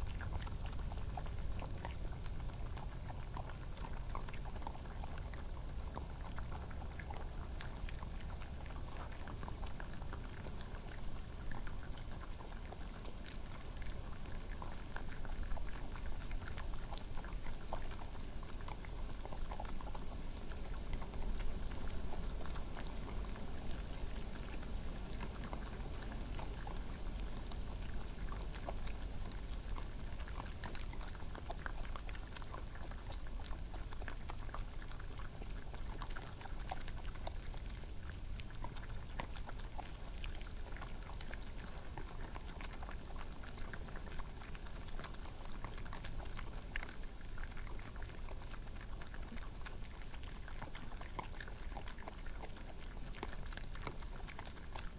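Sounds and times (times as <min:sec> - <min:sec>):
animals crunching peanuts: 0:00.0 - 0:54.9.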